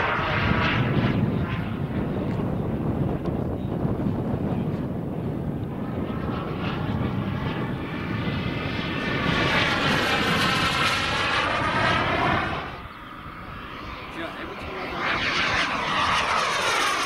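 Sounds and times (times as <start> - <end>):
model jet turbine roar: 0.0 - 17.0.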